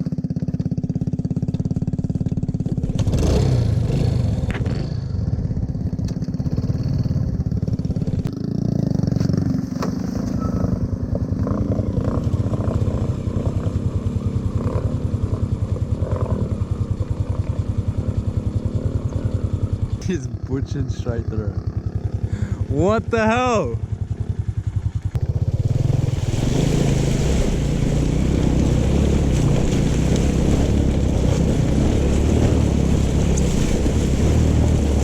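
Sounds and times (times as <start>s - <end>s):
motorbike engine running: 0.0s - 35.0s.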